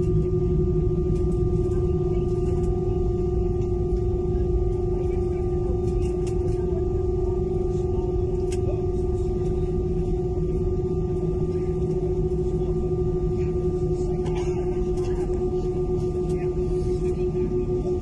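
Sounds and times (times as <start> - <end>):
airplane cabin hum: 0.0 - 18.0.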